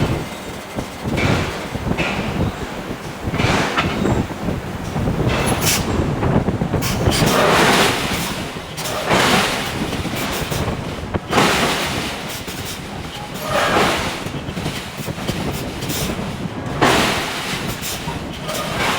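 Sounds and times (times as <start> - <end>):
low machinery noise: 0.0 - 18.9.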